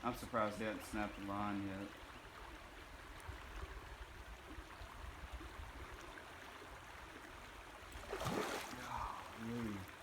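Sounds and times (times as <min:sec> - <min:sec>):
rushing water: 0:01.0 - 0:10.0.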